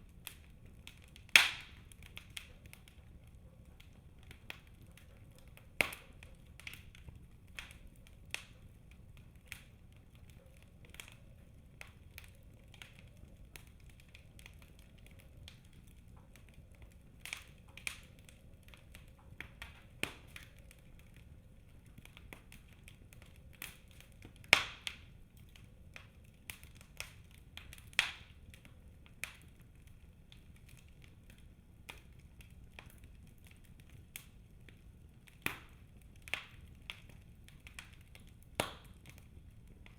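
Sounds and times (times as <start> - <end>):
burning logs popping and snapping: 0.0 - 39.9
low rumble of flames: 0.0 - 39.9.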